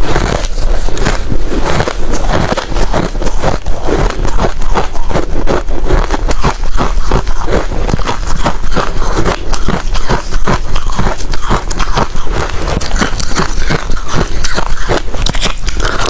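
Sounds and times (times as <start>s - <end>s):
ice being chewed: 0.0s - 16.0s.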